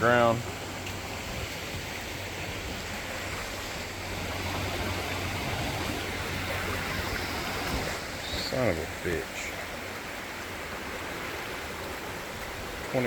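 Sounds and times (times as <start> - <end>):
floodwater rushing in a creek: 0.0 - 13.0.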